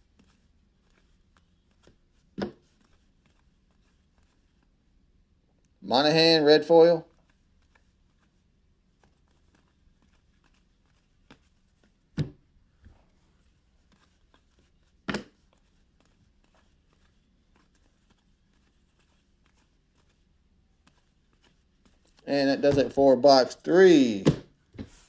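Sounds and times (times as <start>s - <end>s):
cards rustling: 0.0s - 4.8s, 6.8s - 12.2s, 12.9s - 25.0s.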